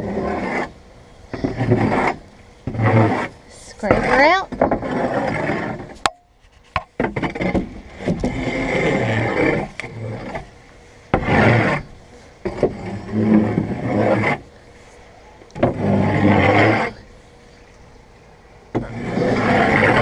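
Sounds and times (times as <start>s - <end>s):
hoe scraping floor: 0.0s - 0.7s, 1.3s - 17.1s, 18.8s - 20.0s.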